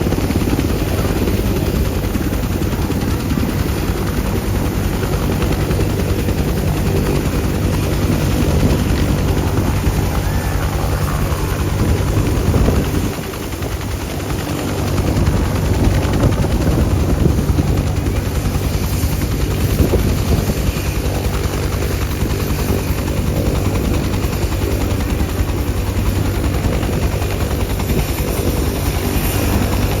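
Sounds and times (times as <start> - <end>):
helicopter rotor and engines: 0.0 - 30.0.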